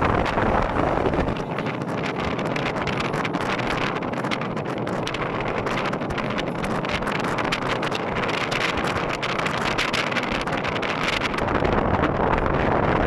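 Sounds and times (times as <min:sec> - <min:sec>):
car travelling on road: 0:00.0 - 0:13.0
wind buffeting microphone: 0:00.0 - 0:13.0.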